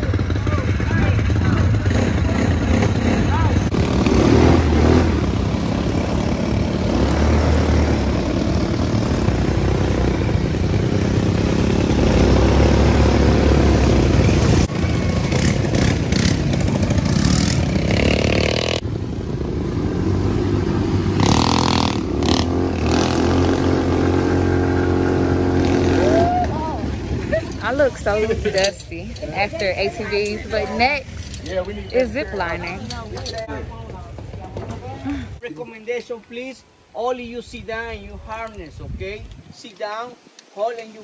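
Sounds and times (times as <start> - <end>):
quad bike engines revving: 0.0 - 35.4.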